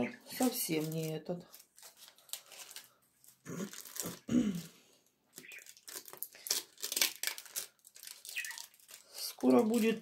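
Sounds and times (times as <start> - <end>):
foil wrapper crinkling and tearing: 0.4 - 10.0.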